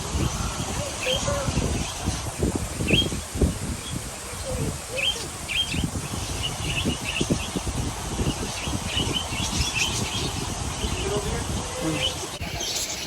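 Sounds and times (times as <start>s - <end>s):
parakeets chirping: 0.1s - 13.0s.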